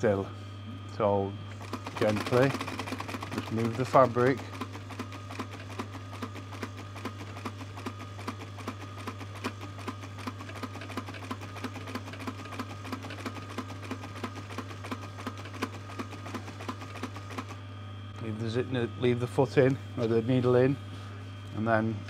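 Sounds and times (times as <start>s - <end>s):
sewing machine motor hum: 1.4s - 20.8s.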